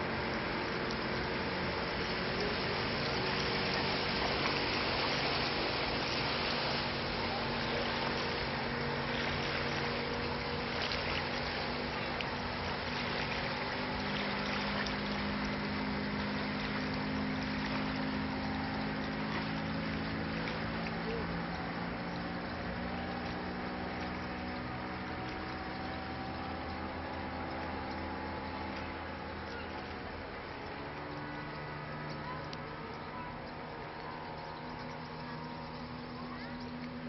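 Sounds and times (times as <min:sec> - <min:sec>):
motorboat engines droning: 0:00.0 - 0:37.0.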